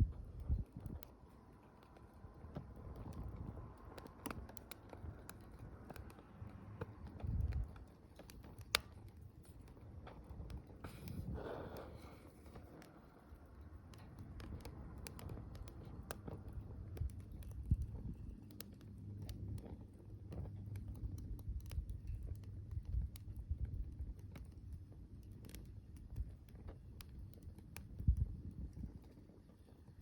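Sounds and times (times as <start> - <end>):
bonfire crackling and popping: 0.0 - 30.0
low rumble of flame: 0.0 - 30.0.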